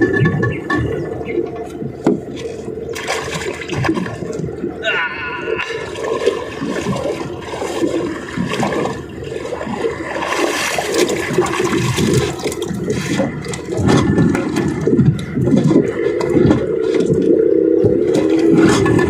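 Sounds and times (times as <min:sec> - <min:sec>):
water splashing along boat hull: 0:00.0 - 0:19.0.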